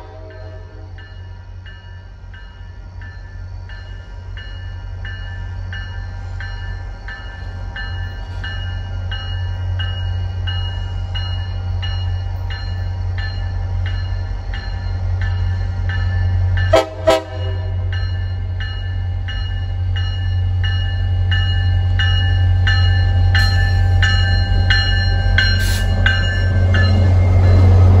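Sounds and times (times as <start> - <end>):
diesel locomotive engine rumble: 0.0 - 28.0
locomotive bell ringing: 0.0 - 28.0.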